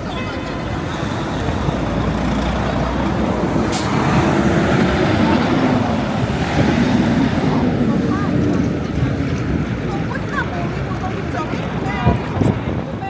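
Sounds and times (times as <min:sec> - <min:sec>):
heavy vehicle engine running: 0:00.0 - 0:13.0
street traffic: 0:00.0 - 0:13.0.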